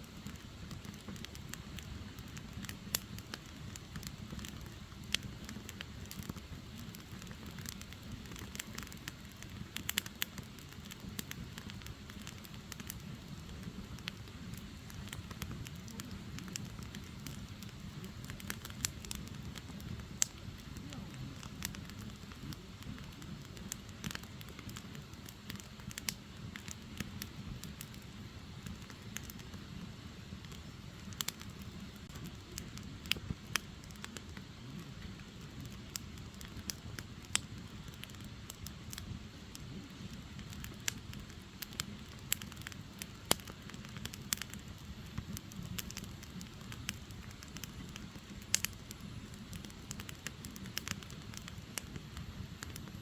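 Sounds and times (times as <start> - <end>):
fire crackling and popping: 0.0 - 53.0
low rush of flame: 0.0 - 53.0.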